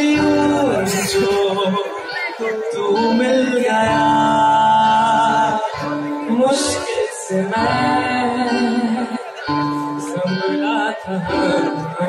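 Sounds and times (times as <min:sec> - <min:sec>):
acoustic guitar: 0:00.0 - 0:12.0
person singing long notes: 0:00.0 - 0:12.0.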